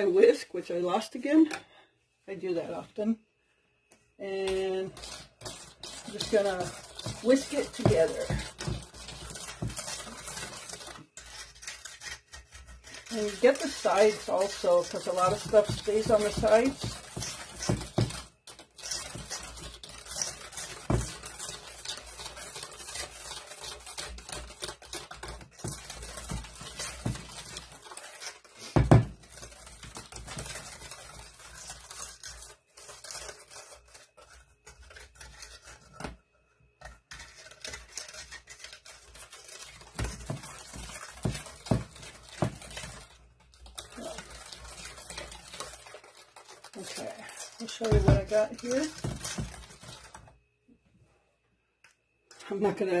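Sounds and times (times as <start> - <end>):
whisk beating in metal bowl: 4.3 - 33.9, 37.2 - 50.1.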